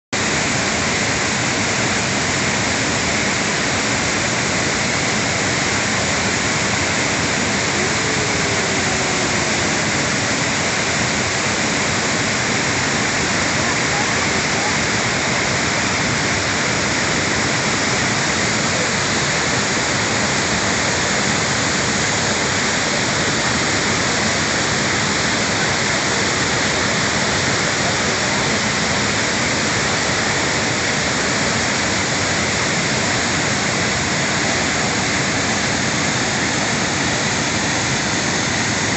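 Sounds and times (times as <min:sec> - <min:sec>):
waterfall rushing: 0:00.2 - 0:38.9.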